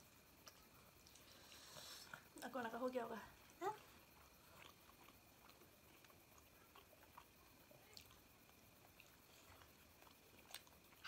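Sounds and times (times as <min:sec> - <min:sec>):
people chewing and eating: 0:00.0 - 0:02.5, 0:03.3 - 0:11.0.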